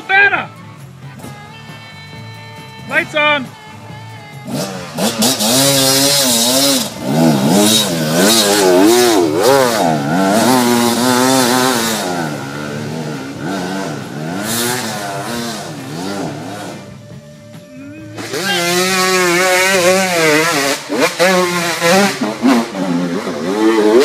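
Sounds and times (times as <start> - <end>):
dirt bike engine revving: 2.7 - 24.0.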